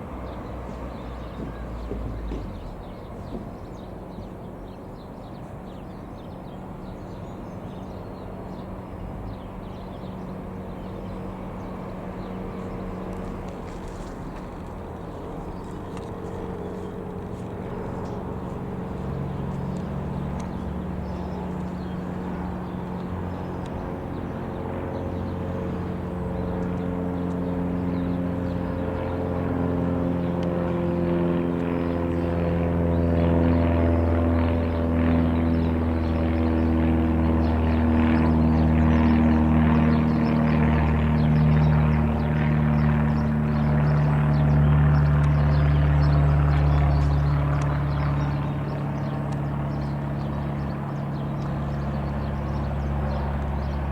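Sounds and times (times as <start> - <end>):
light aircraft engine drone: 0.0 - 53.9.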